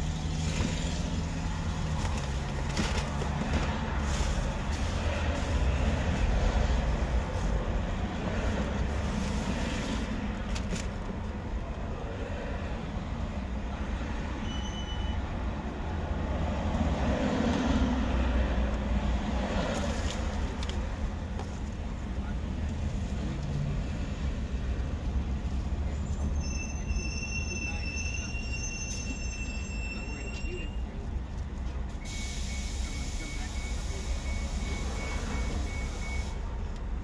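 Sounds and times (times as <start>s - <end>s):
traffic rumble: 0.0s - 37.0s.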